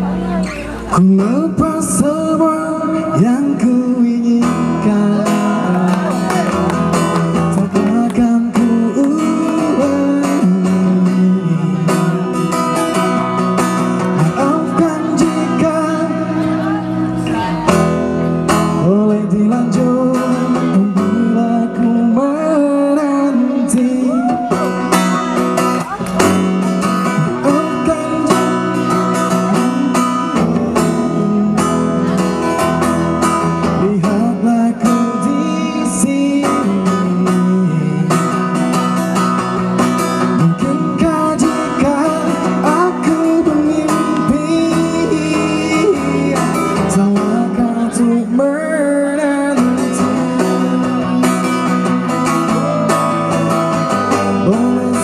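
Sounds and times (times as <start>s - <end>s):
man singing: 0.0s - 55.0s
strummed acoustic guitar: 0.0s - 55.0s.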